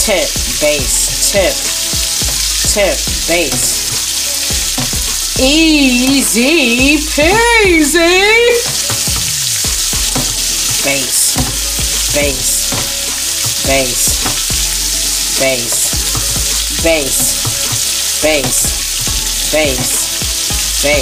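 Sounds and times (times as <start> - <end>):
butter sizzling in a pan: 0.0 - 21.0.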